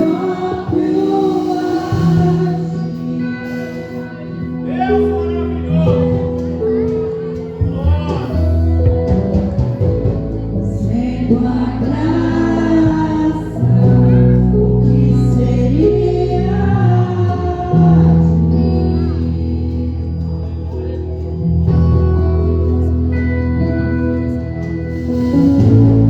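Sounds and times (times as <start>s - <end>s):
held instrumental chords: 0.0s - 26.0s
person singing slow melody: 0.0s - 26.0s.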